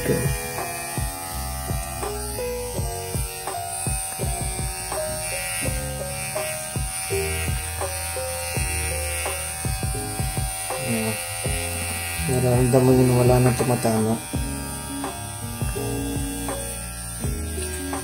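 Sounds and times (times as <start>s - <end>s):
background music: 0.0s - 18.0s
hair clipper buzzing: 0.0s - 18.0s.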